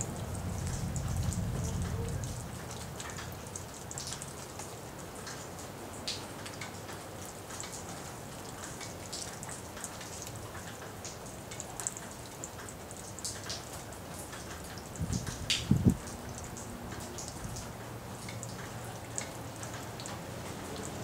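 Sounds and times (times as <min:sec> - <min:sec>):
rain falling steadily: 0:00.0 - 0:21.0
raindrops pattering on surfaces: 0:00.0 - 0:21.0.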